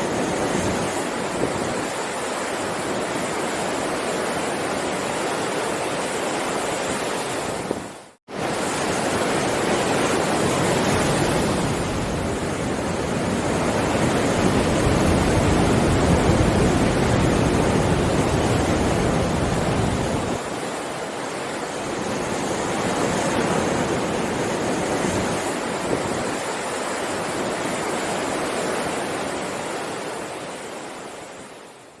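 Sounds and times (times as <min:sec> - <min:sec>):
ocean surf breaking waves: 0:00.0 - 0:32.0.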